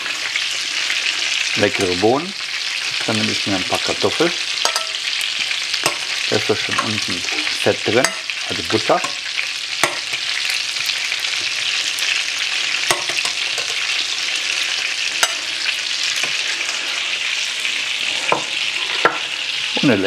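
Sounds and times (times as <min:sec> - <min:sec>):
meat patties sizzling in oil: 0:00.0 - 0:20.0.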